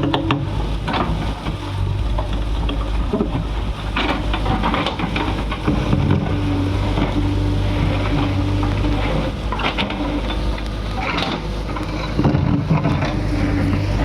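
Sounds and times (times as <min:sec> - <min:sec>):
diesel engine running under load: 0:00.0 - 0:14.0
digger bucket clanking and scraping: 0:00.0 - 0:14.0.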